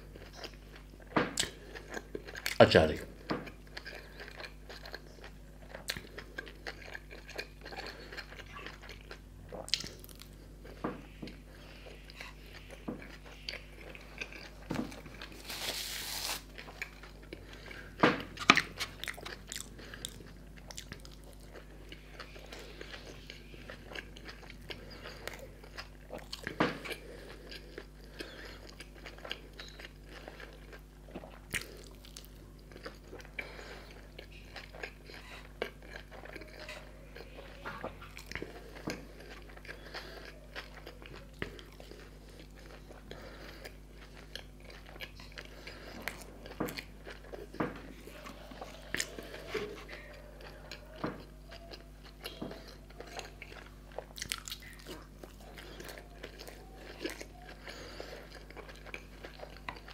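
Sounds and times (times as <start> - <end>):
biting and chewing: 0.0 - 59.9.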